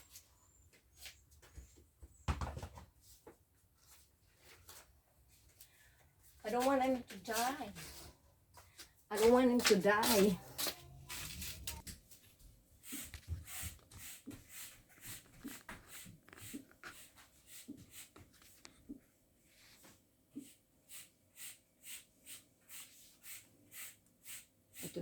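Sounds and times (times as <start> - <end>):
quiet footsteps: 0.0 - 20.5.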